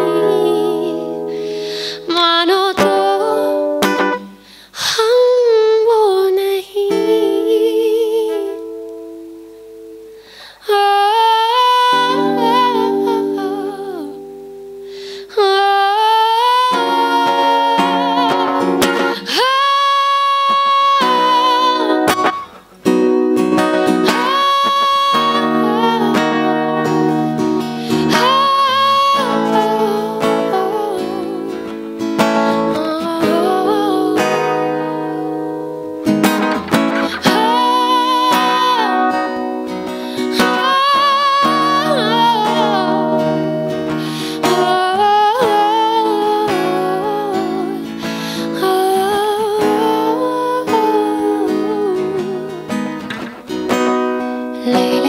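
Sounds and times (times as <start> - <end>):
woman singing: 0.0 - 9.5, 10.4 - 14.6, 15.2 - 22.5, 23.4 - 55.0
acoustic guitar: 0.0 - 55.0.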